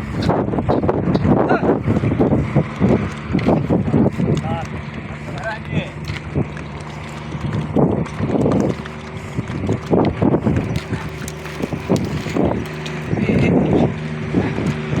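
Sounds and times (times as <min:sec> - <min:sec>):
engine hum: 0:00.0 - 0:15.0
wind buffeting microphone: 0:00.0 - 0:15.0.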